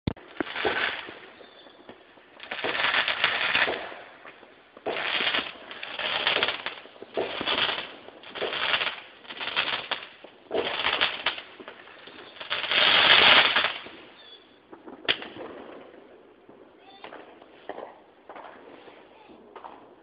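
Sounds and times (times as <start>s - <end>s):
fireworks crackling: 0.1s - 20.0s.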